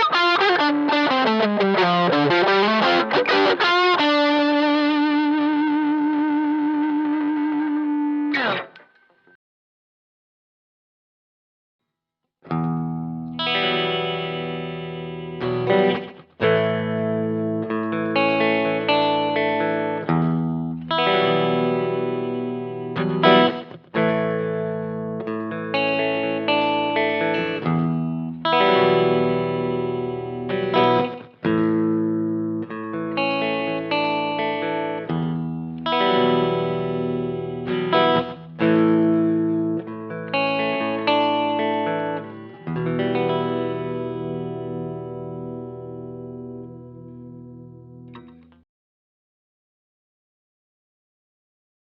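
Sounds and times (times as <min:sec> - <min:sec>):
distorted guitar chords ringing: 0:00.0 - 0:09.3, 0:12.5 - 0:48.6.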